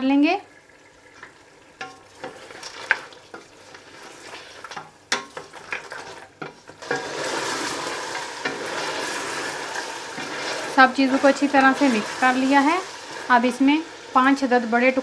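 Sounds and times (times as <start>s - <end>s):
meat sizzling: 0.0s - 15.0s
spatula scraping a pot: 1.2s - 13.3s.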